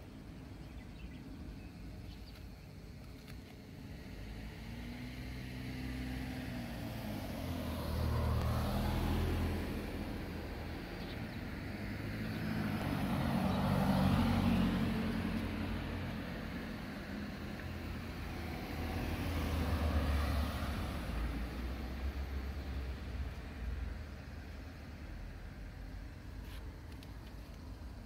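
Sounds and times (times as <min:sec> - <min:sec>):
passing vehicles: 0:00.0 - 0:28.0.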